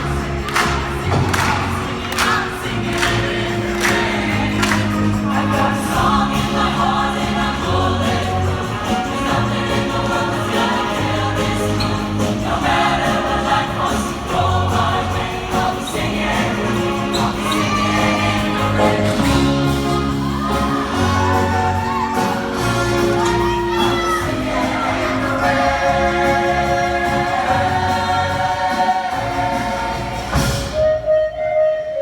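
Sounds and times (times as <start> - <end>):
drum beat: 0.0 - 30.7
bass line: 0.0 - 30.8
gospel choir singing: 0.0 - 31.2.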